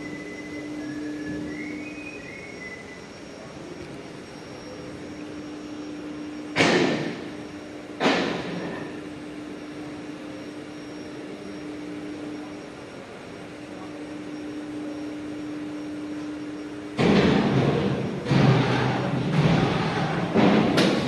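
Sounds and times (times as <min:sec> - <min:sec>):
harsh machine noise: 0:00.0 - 0:21.0
steady machine hum: 0:00.0 - 0:21.0.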